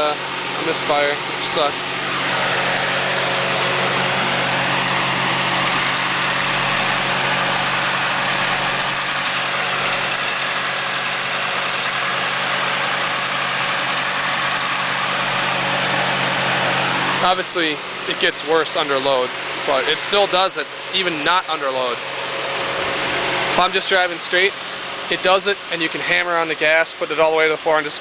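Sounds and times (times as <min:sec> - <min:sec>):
misfiring car engine running: 0:00.0 - 0:28.0.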